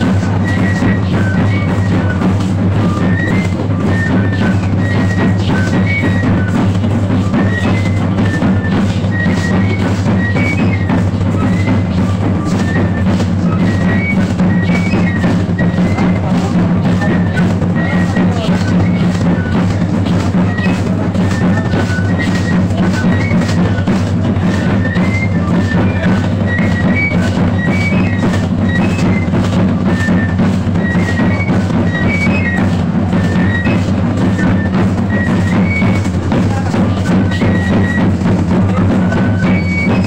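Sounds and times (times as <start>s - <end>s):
fast hand drum beat: 0.0s - 40.0s
flute melody: 0.0s - 40.0s.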